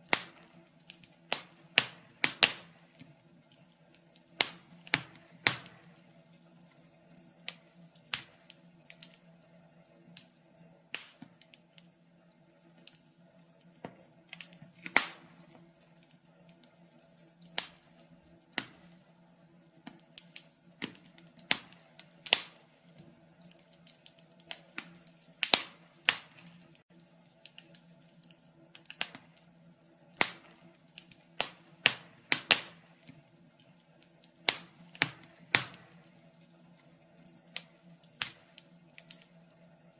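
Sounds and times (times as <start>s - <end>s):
fire popping: 0.0s - 39.9s
logs crackling in fireplace: 0.0s - 39.9s.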